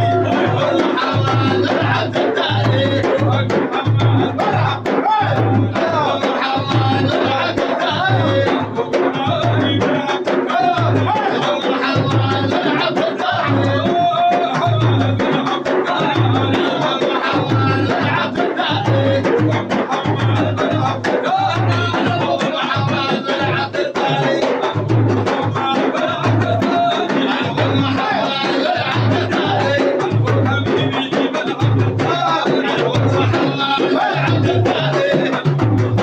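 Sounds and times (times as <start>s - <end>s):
drums steady beat: 0.0s - 36.0s
group singing: 0.0s - 36.0s.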